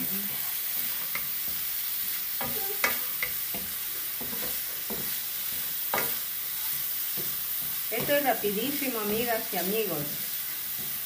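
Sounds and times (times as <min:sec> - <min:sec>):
vegetables sizzling in a pan: 0:00.0 - 0:11.0
wooden spoon scraping a pan: 0:00.3 - 0:11.0.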